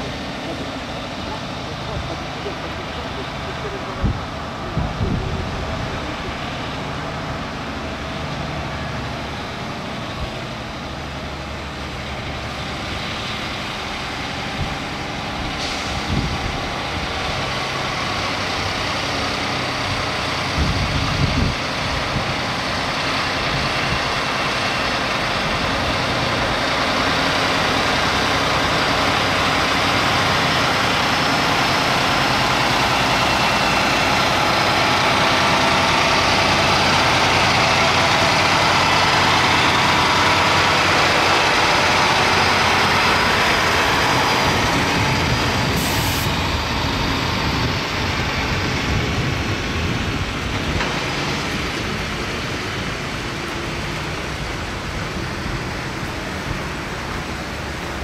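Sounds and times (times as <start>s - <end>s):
diesel truck engine: 0.0s - 58.0s.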